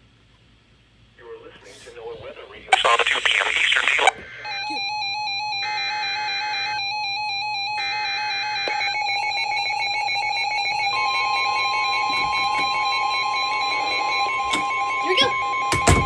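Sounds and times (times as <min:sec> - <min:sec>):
buzzy digital header bursts: 0:02.6 - 0:16.0
pulsing electronic alarm: 0:02.7 - 0:16.0
steady alert tone: 0:02.8 - 0:16.0.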